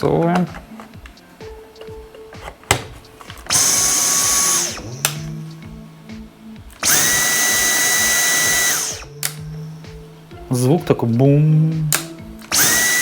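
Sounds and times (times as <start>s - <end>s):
vacuum cleaner motor whine: 0.0s - 10.7s, 11.4s - 13.0s.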